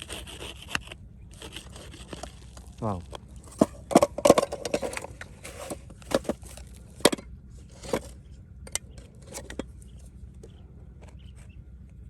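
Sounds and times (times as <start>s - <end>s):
irregular scrapes and knocks: 0.0s - 11.5s.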